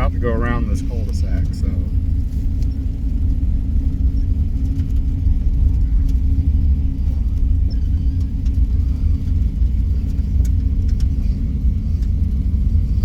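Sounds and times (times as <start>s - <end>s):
low engine and road rumble: 0.0s - 13.0s.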